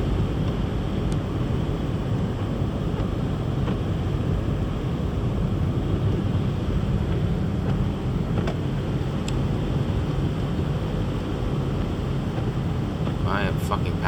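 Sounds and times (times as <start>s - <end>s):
tyres and engine rumble: 0.0s - 14.0s.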